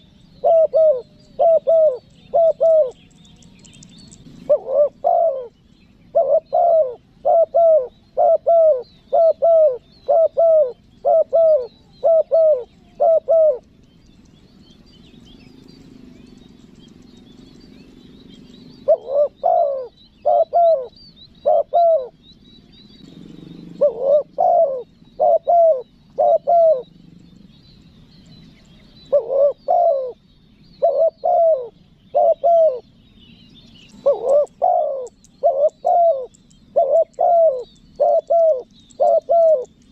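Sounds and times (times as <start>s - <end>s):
dove cooing: 0.0s - 22.3s, 22.9s - 33.0s, 33.7s - 39.9s
faint small birds chirping: 0.0s - 39.9s.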